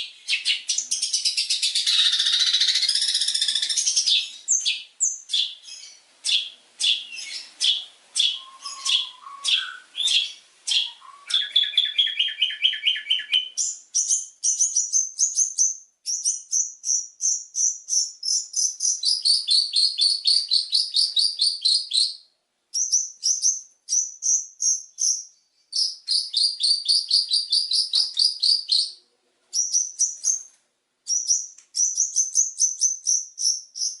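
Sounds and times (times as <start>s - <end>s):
bird singing high chirps: 0.0s - 34.0s.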